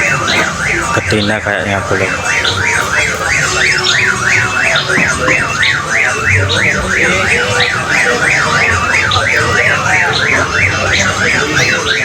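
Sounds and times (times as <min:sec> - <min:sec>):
electronic warbling tone: 0:00.0 - 0:12.0.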